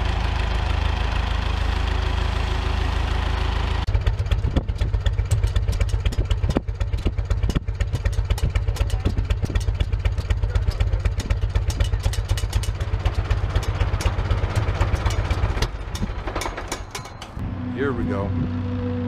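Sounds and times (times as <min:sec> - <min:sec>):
tractor engine exhaust pulses: 0:00.0 - 0:19.0.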